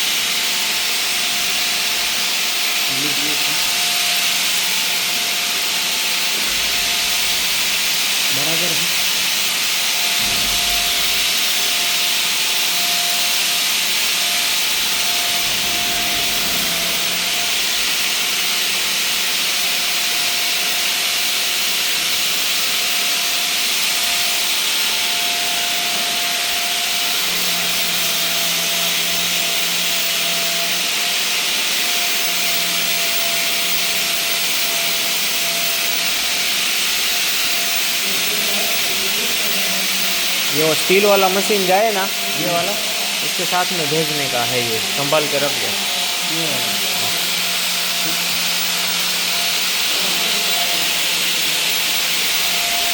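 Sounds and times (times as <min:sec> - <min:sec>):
grinder machine running: 0:00.0 - 0:52.9.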